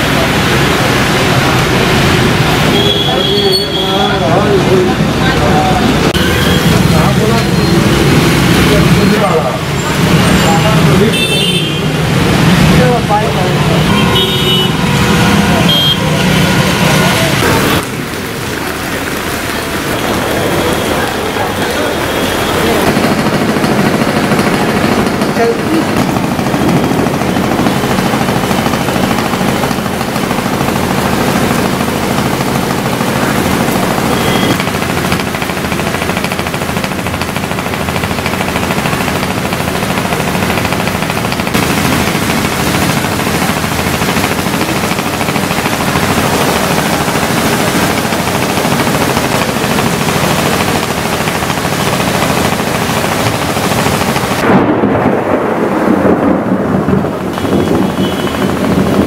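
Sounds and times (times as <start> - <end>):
heavy rain on car roofs: 0.0 - 59.0.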